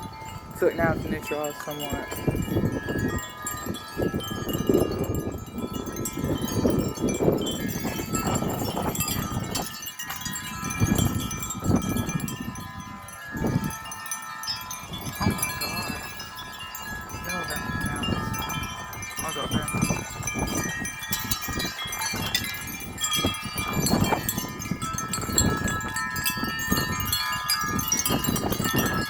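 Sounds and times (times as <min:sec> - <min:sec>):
gusty wind buffeting: 0:00.0 - 0:29.0
wind chimes ringing: 0:00.0 - 0:29.0.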